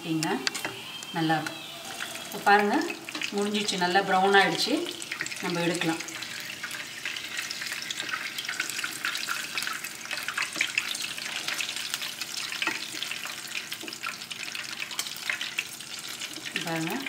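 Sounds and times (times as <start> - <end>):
food deep-frying in hot oil: 0.0 - 17.0.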